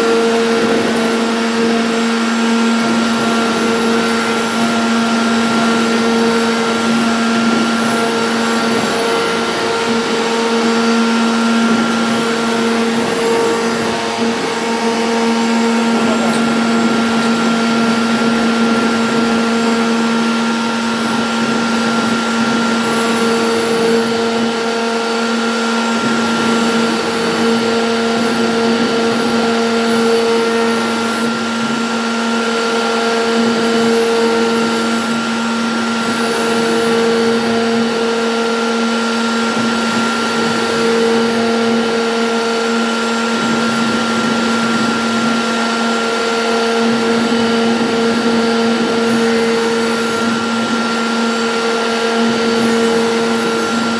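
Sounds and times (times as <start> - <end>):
cnc router motor whine: 0.0 - 53.9.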